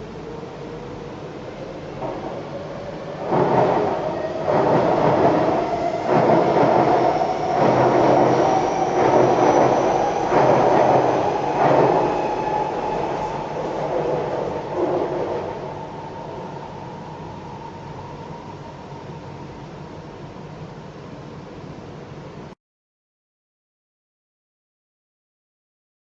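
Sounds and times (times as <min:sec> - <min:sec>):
train rumbling and rattling: 0:00.0 - 0:22.5.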